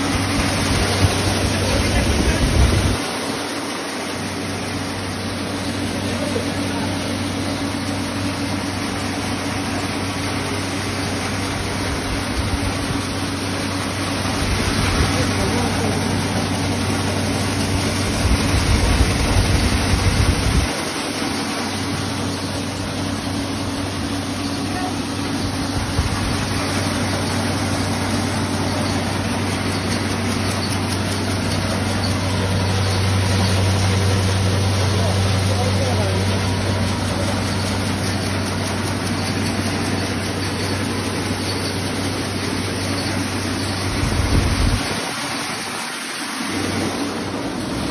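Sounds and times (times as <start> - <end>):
blower air rushing: 0.0 - 35.3, 43.3 - 47.9
motor hum: 0.0 - 47.9.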